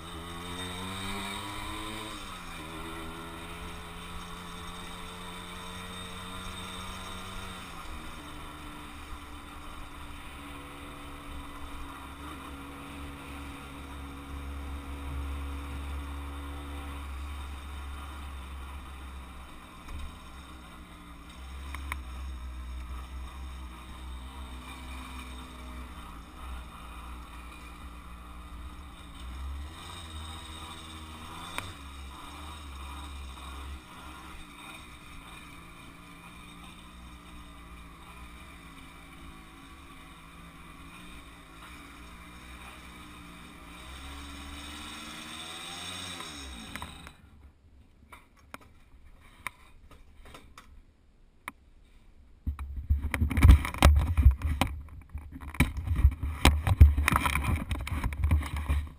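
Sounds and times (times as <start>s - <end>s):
moped engine running: 0.0s - 47.4s, 52.5s - 58.9s
wind and road noise: 0.0s - 58.9s.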